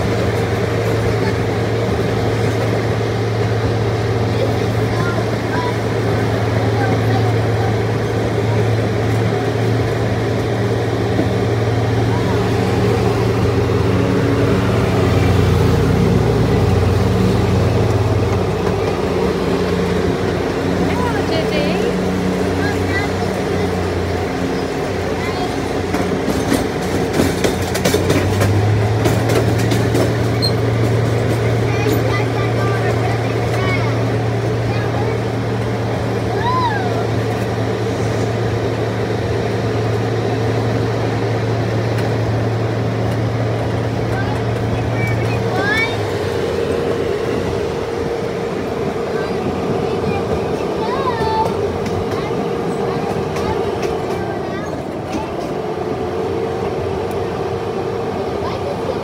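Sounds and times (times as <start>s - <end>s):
low engine drone: 0.0s - 59.0s
rumble of moving ride: 0.0s - 59.0s.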